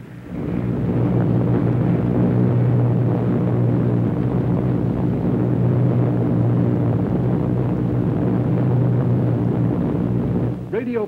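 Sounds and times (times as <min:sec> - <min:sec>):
piston aircraft engines droning: 0:00.0 - 0:11.0.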